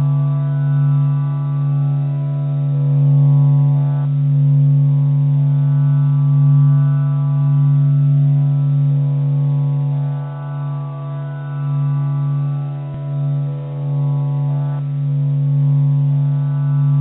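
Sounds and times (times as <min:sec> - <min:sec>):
low drone with overtones: 0:00.0 - 0:17.0.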